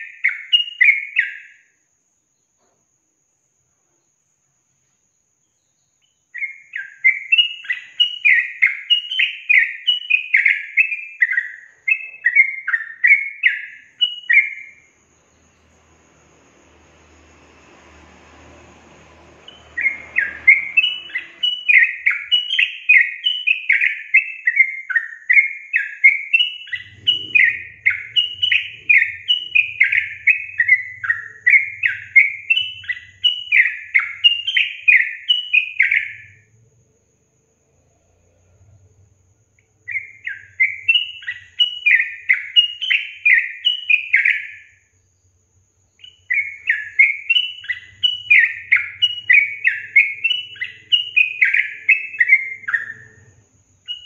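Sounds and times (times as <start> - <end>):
bulbul singing: 0.0 - 1.7, 5.4 - 36.7, 38.4 - 54.0.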